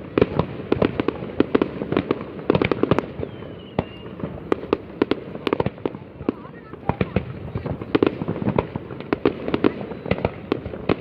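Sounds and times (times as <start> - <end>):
firework whistle: 0.0 - 11.0
fireworks bangs and pops: 0.0 - 11.0.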